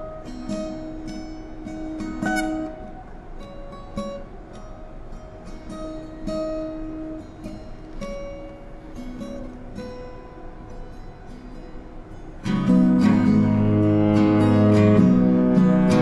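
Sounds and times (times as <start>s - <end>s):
picked acoustic guitar: 0.0s - 16.0s.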